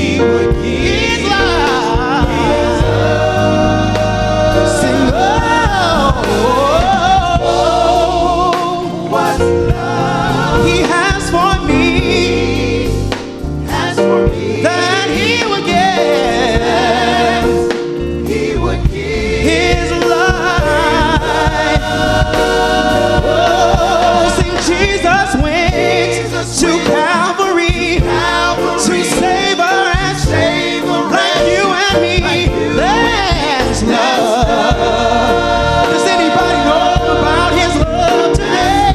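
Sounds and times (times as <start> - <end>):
vocal group singing in harmony: 0.0 - 38.9.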